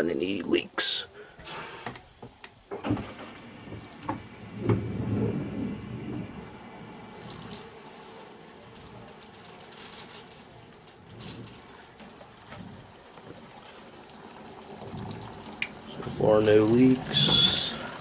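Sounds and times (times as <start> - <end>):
water rushing through tubing: 2.8 - 18.0.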